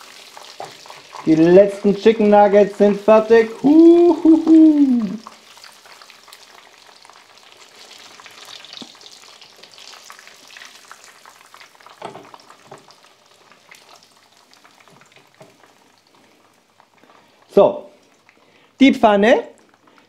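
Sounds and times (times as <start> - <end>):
hot oil sizzling in a frying pan: 0.0 - 20.0.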